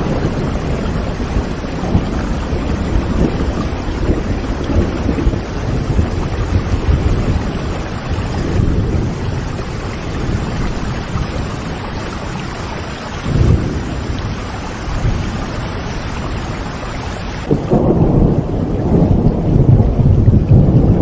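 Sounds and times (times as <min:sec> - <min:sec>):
heavy rain: 0:00.0 - 0:21.0
low rolling thunder: 0:00.0 - 0:21.0.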